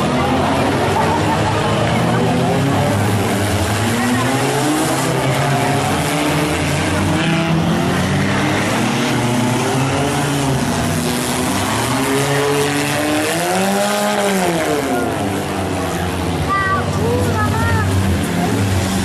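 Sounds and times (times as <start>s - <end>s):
engines running and revving: 0.0s - 19.0s.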